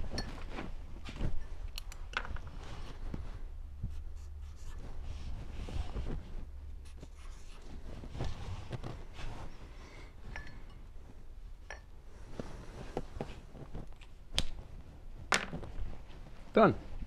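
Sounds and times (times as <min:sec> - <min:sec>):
cloth rubbing on metal: 0:02.5 - 0:17.0.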